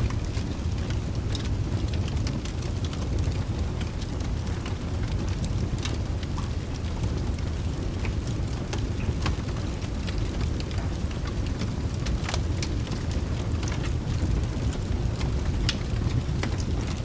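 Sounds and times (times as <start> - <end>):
deep constant rumble: 0.0 - 17.0
steady rain: 0.0 - 17.0
wood fire crackling and popping: 0.0 - 17.0.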